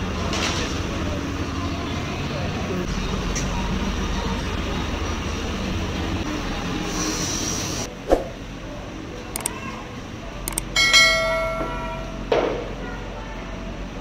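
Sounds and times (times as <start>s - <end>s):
market hum and bustle: 0.0s - 14.0s.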